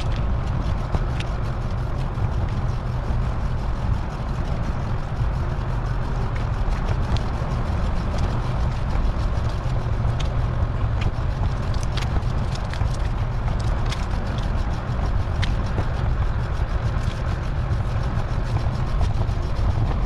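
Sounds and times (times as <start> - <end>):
bicycle road noise: 0.0 - 20.0
wind rumble on microphone: 0.0 - 20.0.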